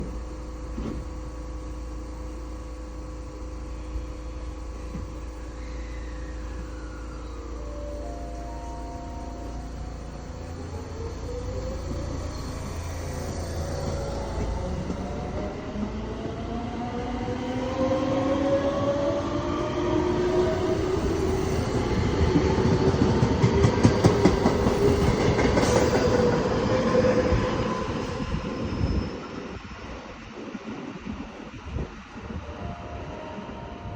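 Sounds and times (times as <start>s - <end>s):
electric train inverter whine: 0.0s - 33.9s.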